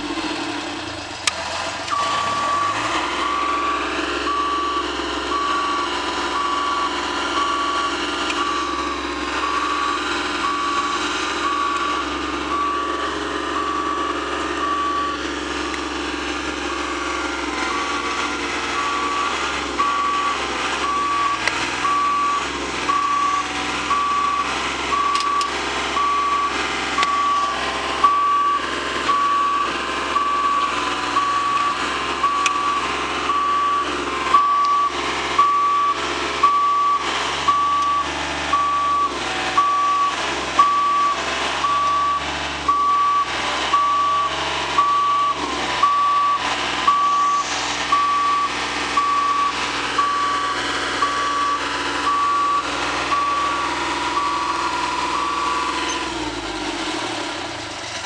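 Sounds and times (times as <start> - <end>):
diesel engine running: 0.0 - 58.0
warning alarm beeping: 1.9 - 56.9.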